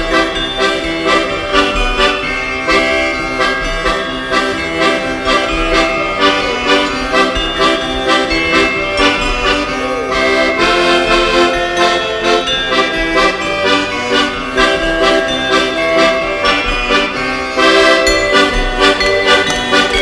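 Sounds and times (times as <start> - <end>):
folk ensemble playing: 0.0 - 20.0.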